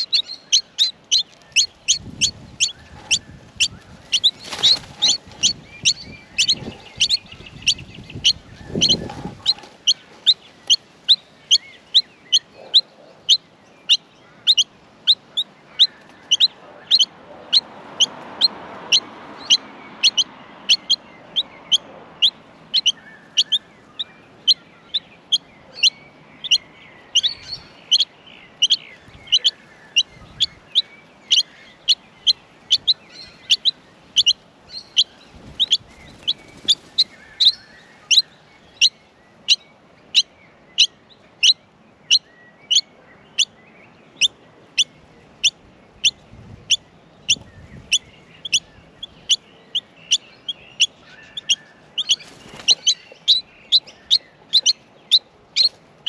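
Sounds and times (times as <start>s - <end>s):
nestling birds chirping: 0.0s - 56.0s.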